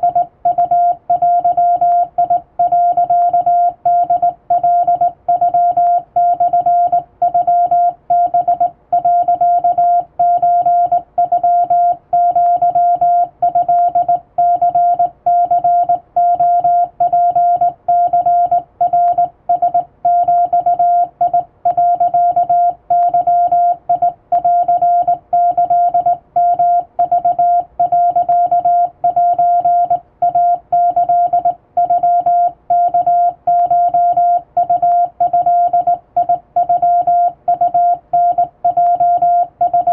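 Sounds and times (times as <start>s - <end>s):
morse code sidetone beeping: 0.0s - 39.9s.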